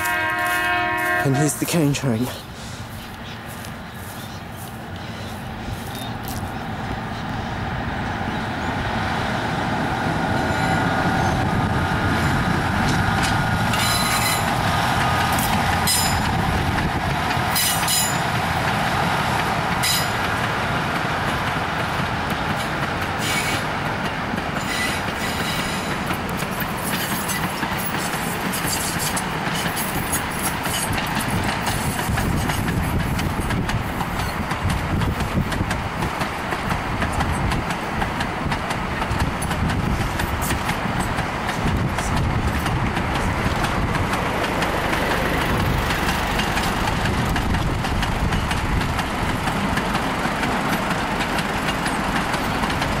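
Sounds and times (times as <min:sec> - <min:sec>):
train rumbling: 0:00.0 - 0:53.0.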